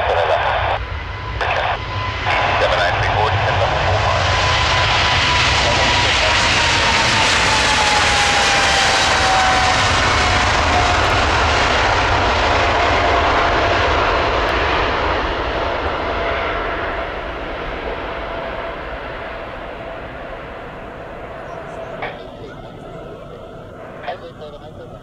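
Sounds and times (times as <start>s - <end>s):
jet engines roaring with whine: 0.0s - 25.0s.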